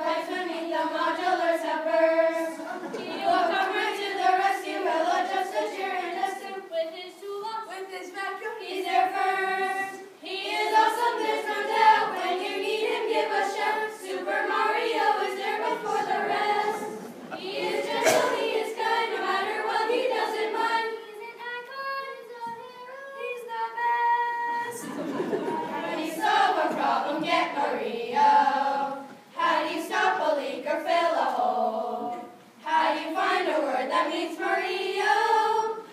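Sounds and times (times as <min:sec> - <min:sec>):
children's choir singing: 0:00.0 - 0:21.7, 0:24.6 - 0:35.9.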